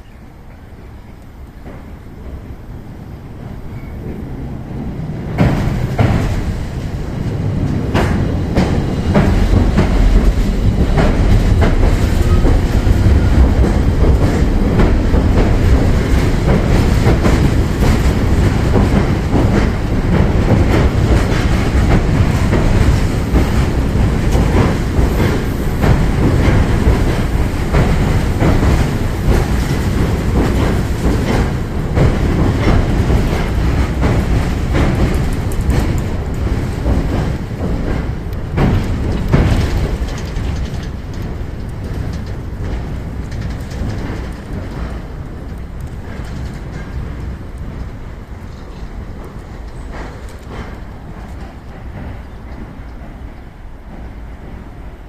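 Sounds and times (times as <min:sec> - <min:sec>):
train wheels clattering on bridge: 0:00.6 - 0:55.0.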